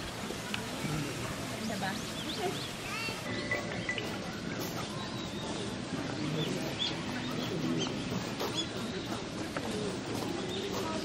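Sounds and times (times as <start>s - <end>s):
murmur of voices: 0.0s - 11.0s
small birds chirping: 0.4s - 11.0s.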